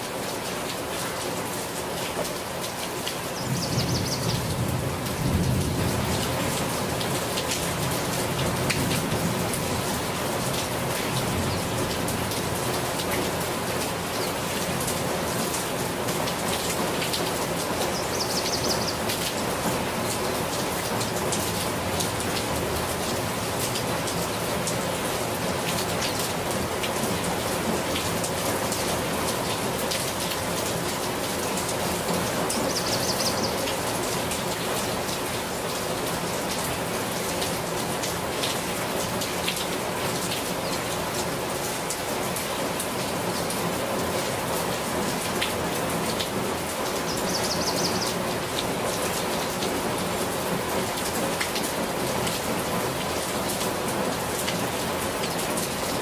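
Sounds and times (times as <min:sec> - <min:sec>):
rain falling on foliage: 0:00.0 - 0:56.0.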